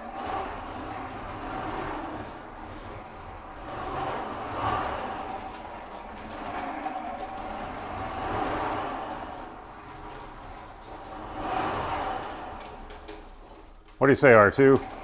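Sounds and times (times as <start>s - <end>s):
wheels rumbling on concrete: 0.0s - 15.0s.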